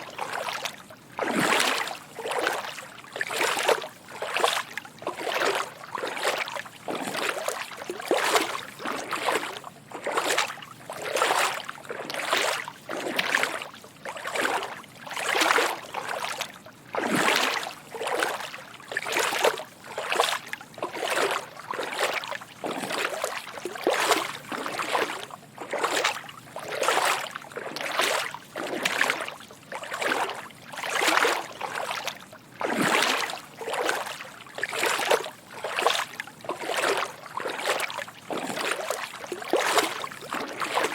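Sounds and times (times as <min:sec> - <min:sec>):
footsteps wading through water: 0:00.0 - 0:40.9.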